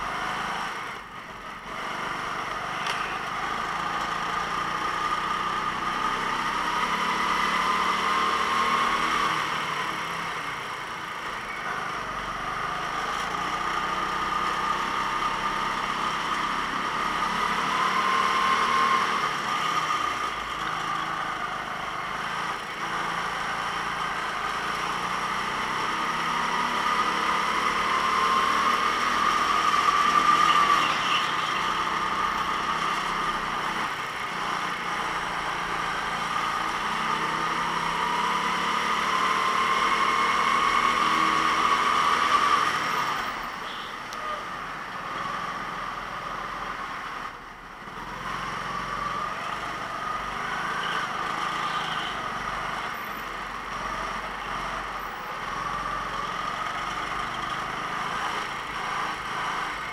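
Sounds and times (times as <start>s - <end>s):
go-kart engine racing: 0.0s - 59.9s.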